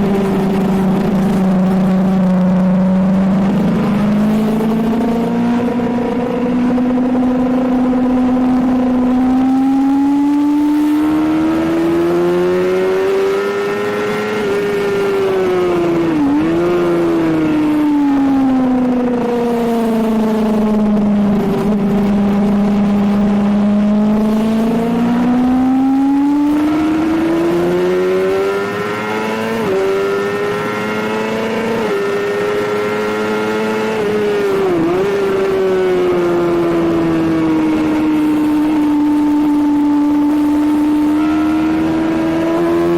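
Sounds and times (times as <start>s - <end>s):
sport bike engine revving: 0.0s - 42.9s.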